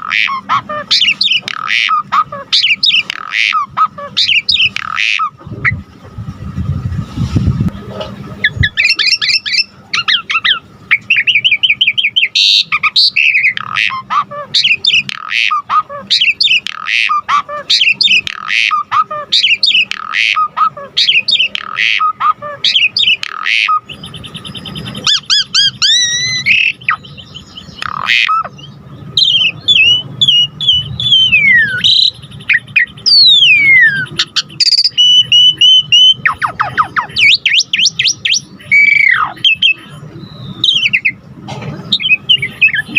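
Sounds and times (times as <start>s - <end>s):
starling singing varied song: 0.0s - 5.9s, 8.4s - 41.3s, 41.9s - 42.9s.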